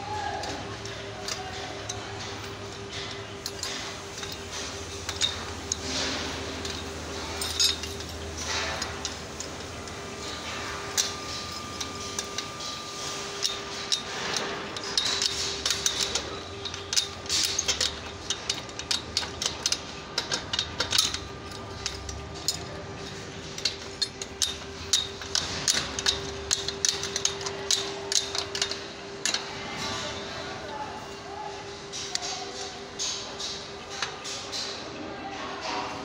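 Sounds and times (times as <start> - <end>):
steady background hum: 0.0 - 36.0
spanner tapping on steel: 0.2 - 30.1.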